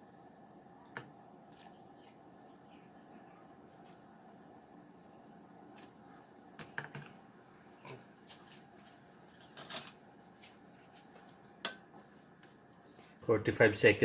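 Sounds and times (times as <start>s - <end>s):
pot of water boiling: 0.0s - 13.3s.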